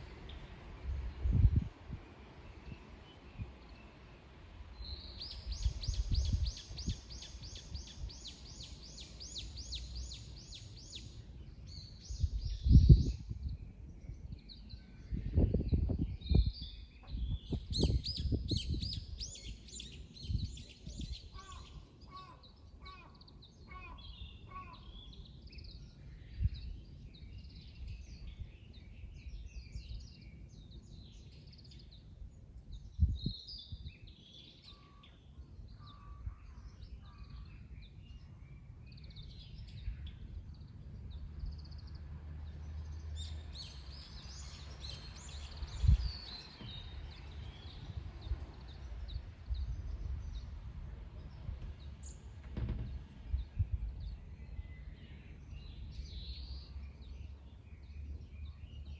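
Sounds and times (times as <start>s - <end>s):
birds singing: 4.7s - 58.9s.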